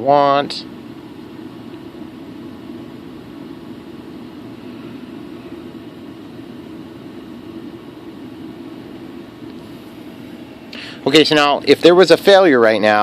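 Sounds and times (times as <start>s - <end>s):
whirring hum and hiss: 0.0s - 13.0s.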